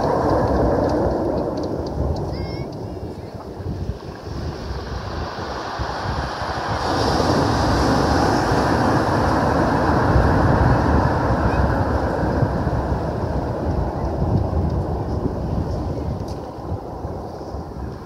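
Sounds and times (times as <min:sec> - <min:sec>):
large wave crashing: 0:00.0 - 0:18.0
surf breaking on shingle beach: 0:00.0 - 0:18.0.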